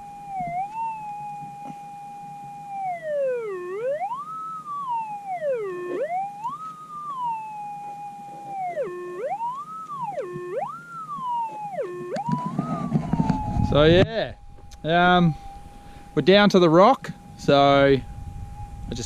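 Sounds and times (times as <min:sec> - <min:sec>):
metal detector tone swooping: 0:00.0 - 0:19.0.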